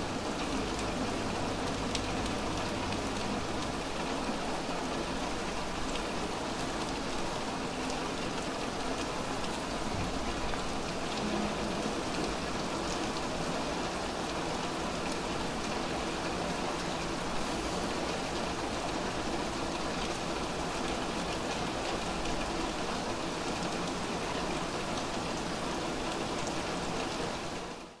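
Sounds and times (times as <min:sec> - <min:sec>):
steady rain on wet street: 0:00.0 - 0:28.0.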